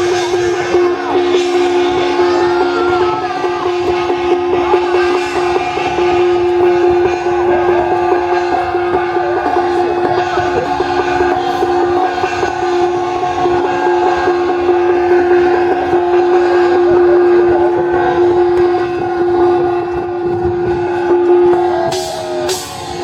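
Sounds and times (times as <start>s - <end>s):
cymbal crash: 0.0s - 23.0s
drums and gongs beat: 0.0s - 23.0s
suona shawm long loud note: 0.0s - 23.0s.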